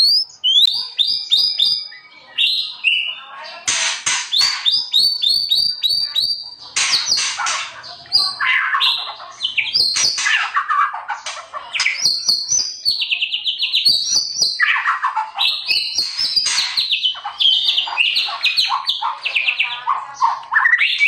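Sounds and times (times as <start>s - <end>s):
bird singing varied song: 0.0s - 21.0s.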